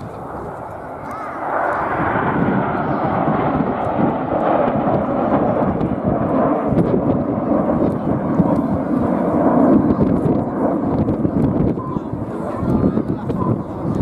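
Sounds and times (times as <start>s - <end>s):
jet engine roar: 0.0s - 14.0s.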